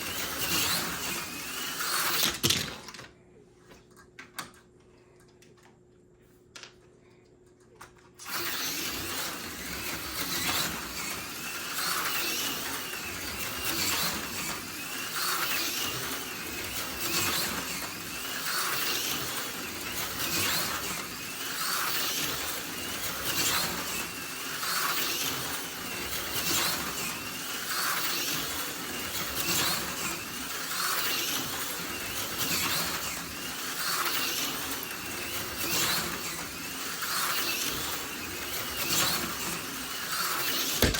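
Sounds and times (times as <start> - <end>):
slot car motor whirring: 0.0 - 3.0, 8.2 - 40.9.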